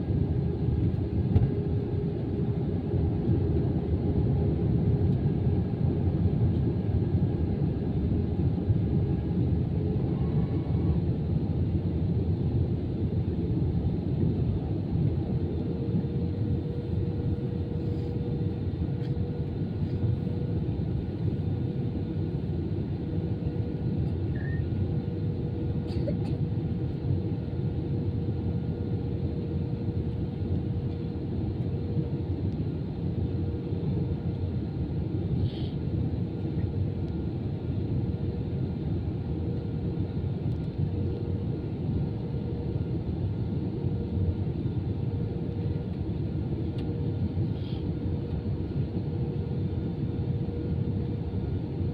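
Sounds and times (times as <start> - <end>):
airliner cabin rumble: 0.0 - 51.9
constant hum: 0.0 - 51.9.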